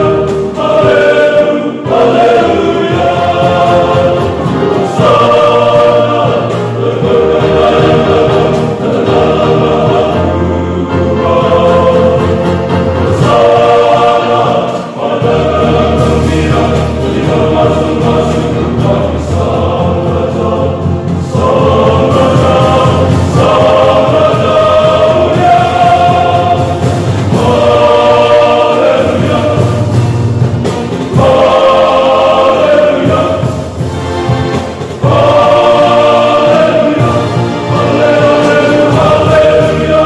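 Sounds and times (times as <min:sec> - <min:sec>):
low keyboard accompaniment: 0:00.0 - 0:40.0
male choir singing: 0:00.0 - 0:40.0.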